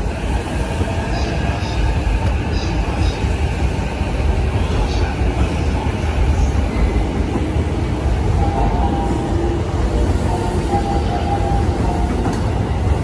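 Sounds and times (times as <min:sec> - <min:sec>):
trains rumbling: 0:00.0 - 0:13.0.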